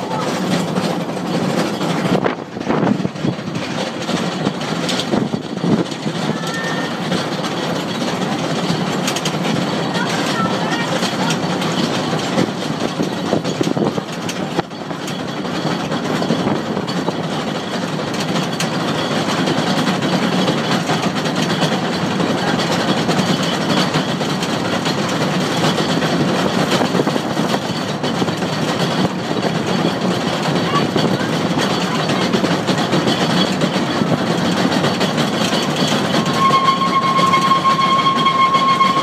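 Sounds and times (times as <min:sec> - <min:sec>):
train wheels rumbling and grinding: 0:00.0 - 0:39.0.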